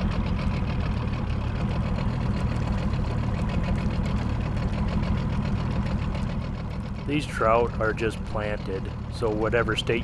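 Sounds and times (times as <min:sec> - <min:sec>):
boat motor running at low speed: 0:00.0 - 0:10.0.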